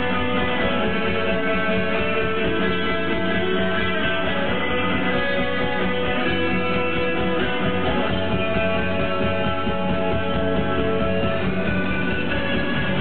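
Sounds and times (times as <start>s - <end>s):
bass guitar: 0.0s - 13.0s
electric guitars ringing chords: 0.0s - 13.0s.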